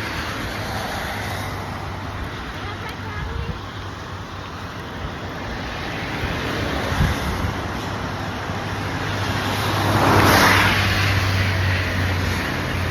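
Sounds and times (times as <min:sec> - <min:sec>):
car passing on wet road: 0:00.0 - 0:12.9
road and wind noise: 0:00.0 - 0:12.9.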